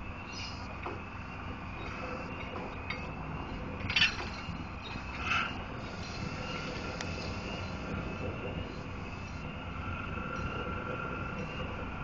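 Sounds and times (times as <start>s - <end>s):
faint rising whine: 0.0s - 12.0s
low engine rumble: 0.0s - 12.0s.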